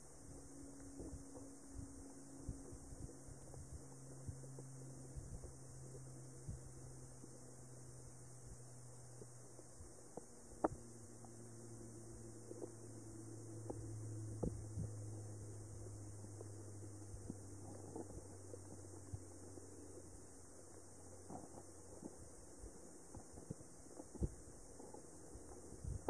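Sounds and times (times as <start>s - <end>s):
small clicks and ticks: 0.0s - 26.0s
underwater low hum: 0.0s - 26.0s.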